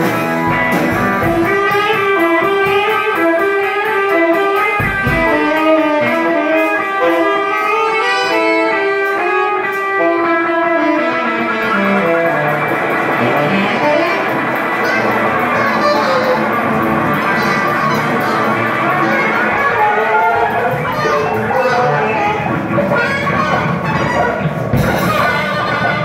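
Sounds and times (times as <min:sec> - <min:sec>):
drum kit: 0:00.0 - 0:26.0
electric guitar: 0:00.0 - 0:26.0
saxophone: 0:00.0 - 0:26.0.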